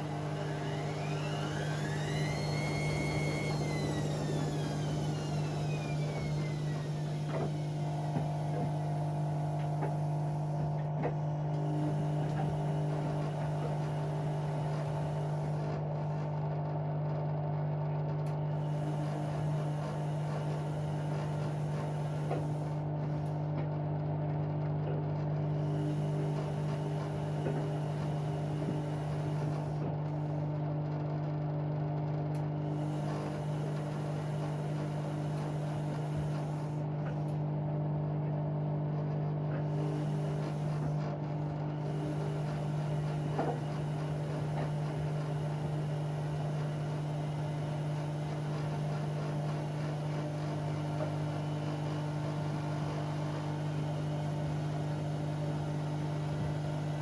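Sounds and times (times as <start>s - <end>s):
washing machine humming: 0.0s - 30.8s, 31.7s - 57.0s.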